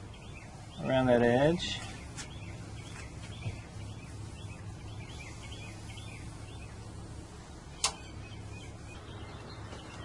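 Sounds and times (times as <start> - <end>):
birds chirping: 0.0 - 10.0
low background hum: 0.0 - 10.0.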